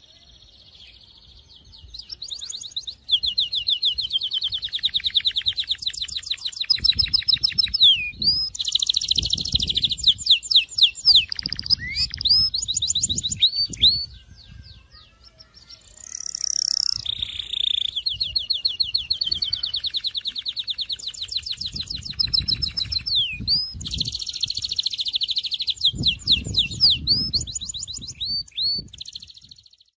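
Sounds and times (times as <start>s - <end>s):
canary singing trills: 0.0s - 30.0s.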